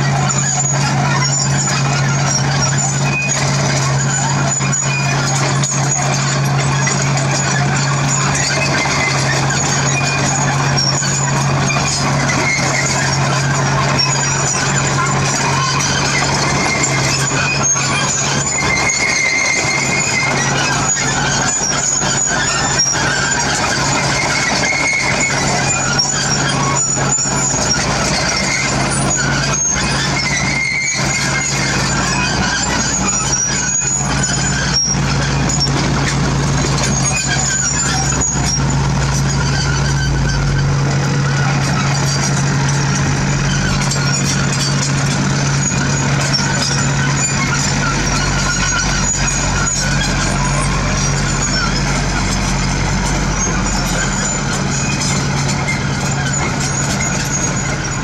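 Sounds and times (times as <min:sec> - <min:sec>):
diesel engines droning: 0:00.0 - 0:58.0
mechanical clatter: 0:00.0 - 0:58.0.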